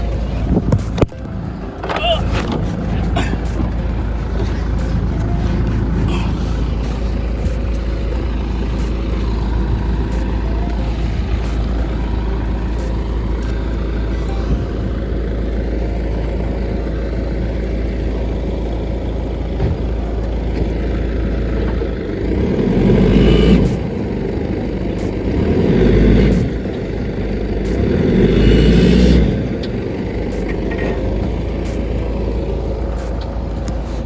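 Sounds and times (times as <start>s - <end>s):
vehicle engine revving: 0.0s - 34.0s.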